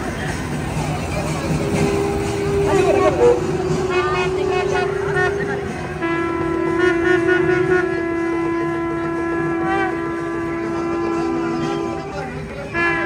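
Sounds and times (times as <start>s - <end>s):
reed pipe drone: 0.0s - 13.0s
reed pipe ornamented melody: 0.0s - 13.0s.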